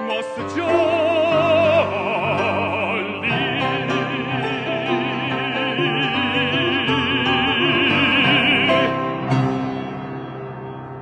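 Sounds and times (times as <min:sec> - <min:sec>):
operatic voice singing: 0:00.0 - 0:09.6
art song accompaniment: 0:00.0 - 0:11.0.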